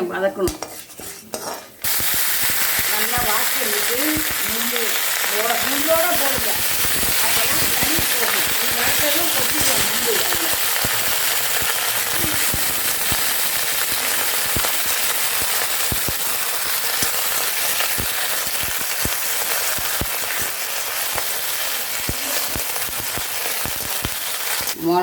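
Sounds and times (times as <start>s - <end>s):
leaves sizzling in hot oil: 1.8s - 25.0s.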